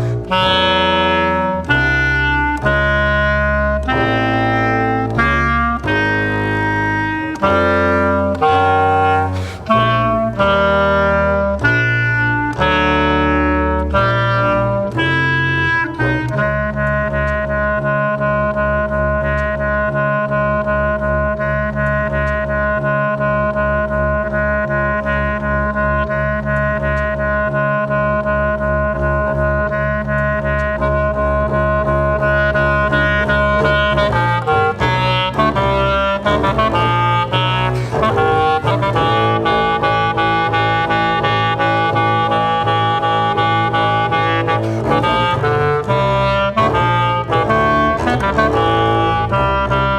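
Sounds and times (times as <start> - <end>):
clarinet held notes: 0.0 - 49.9
double bass held notes: 0.0 - 49.9.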